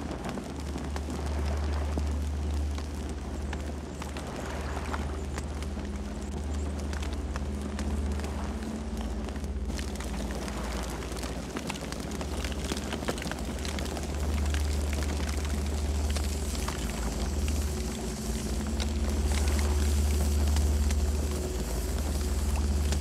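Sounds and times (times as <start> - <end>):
burning wood crackling and popping: 0.0 - 23.0
low rumble of flames: 0.0 - 23.0.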